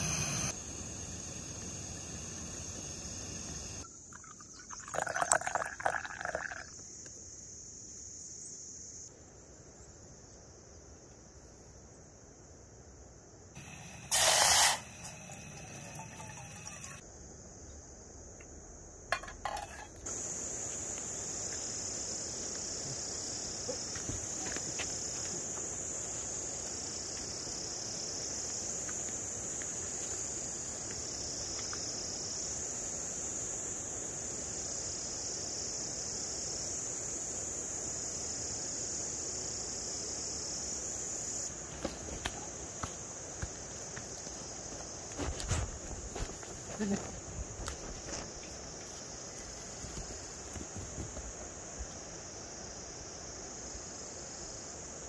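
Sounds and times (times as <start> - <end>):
insects singing in chorus: 0.0 - 9.1, 19.2 - 55.0.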